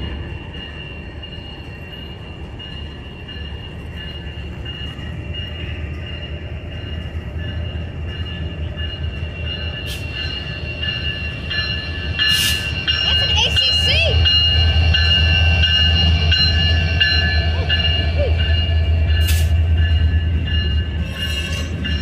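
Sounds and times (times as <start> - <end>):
locomotive engine rumble: 0.0 - 22.0.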